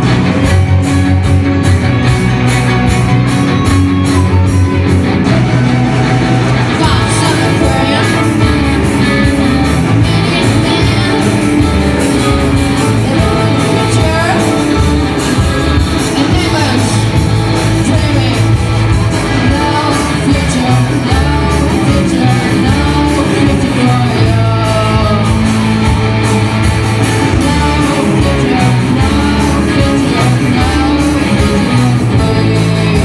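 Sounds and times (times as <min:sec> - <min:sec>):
electric guitars: 0:00.0 - 0:33.0
live rock band playing: 0:00.0 - 0:33.0
person singing: 0:03.4 - 0:26.3, 0:27.0 - 0:33.0.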